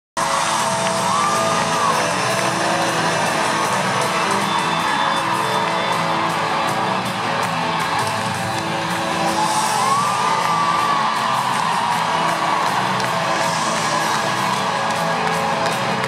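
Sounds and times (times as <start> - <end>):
fans whooping: 0.2 - 16.0.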